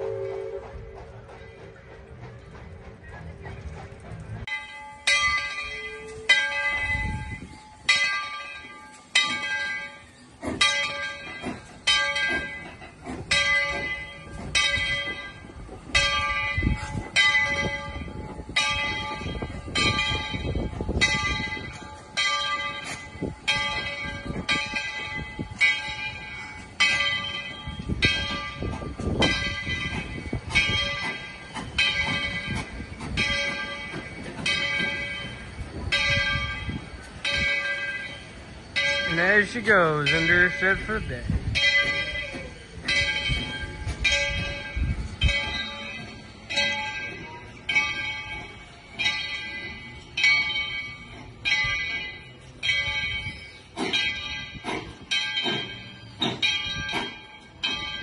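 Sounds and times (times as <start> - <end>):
locomotive bell ringing: 0.0 - 58.0
low rumble of moving train: 0.0 - 58.0.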